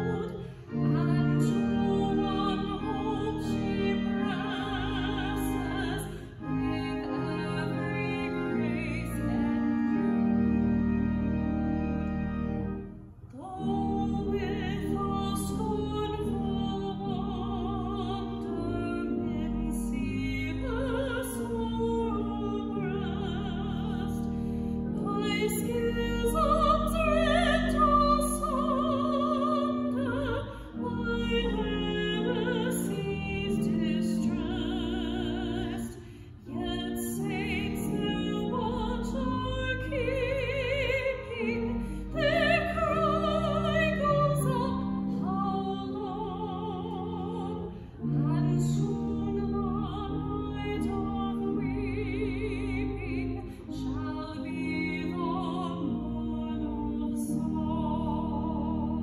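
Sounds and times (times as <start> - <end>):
woman singing a hymn: 0.0 - 12.4, 13.2 - 59.0
sustained organ chords: 0.0 - 59.0.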